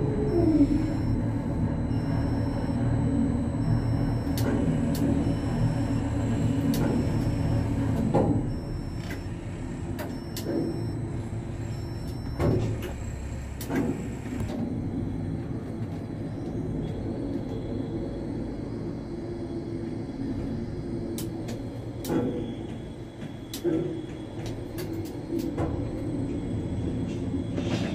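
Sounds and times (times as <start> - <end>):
heavy engine humming: 0.0 - 27.9.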